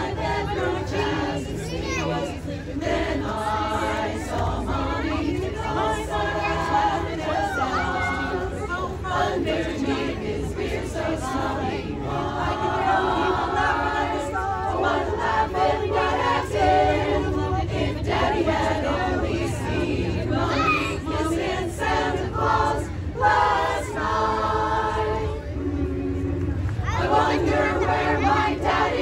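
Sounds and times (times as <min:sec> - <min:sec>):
steady low hum: 0:00.0 - 0:29.0
women's chorus singing: 0:00.0 - 0:29.0.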